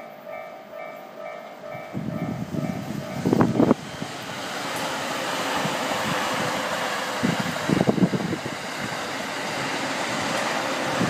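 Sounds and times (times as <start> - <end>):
electric train approaching on tracks: 0.0 - 11.0.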